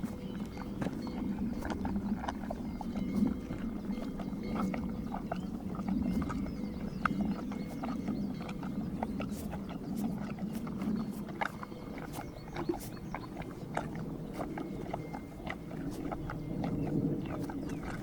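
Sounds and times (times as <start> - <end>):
horses licking salt block: 0.0 - 18.0
low rumble: 0.0 - 18.0.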